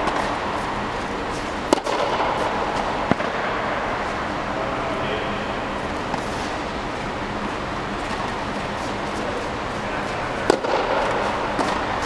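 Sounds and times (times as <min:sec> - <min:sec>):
blowers humming: 0:00.0 - 0:12.0.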